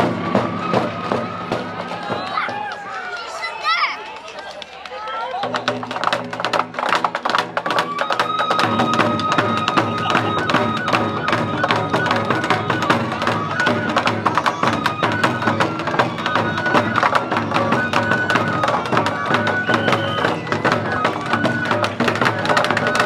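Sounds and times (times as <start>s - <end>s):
rapid dense drumming: 0.0s - 2.8s, 5.4s - 23.0s.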